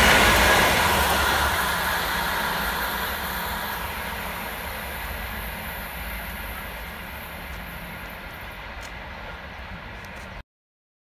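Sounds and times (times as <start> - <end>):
train coaches running on rails: 0.0 - 10.4.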